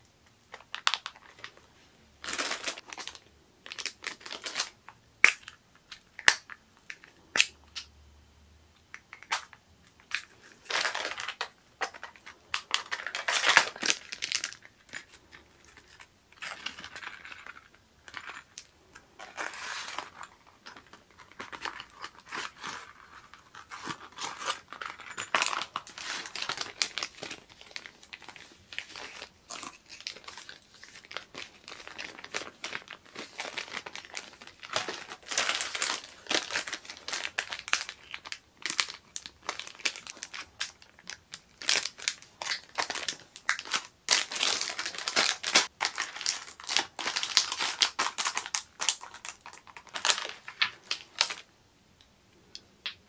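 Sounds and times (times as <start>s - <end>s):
plastic packaging crinkling: 0.4s - 7.9s, 9.1s - 51.5s.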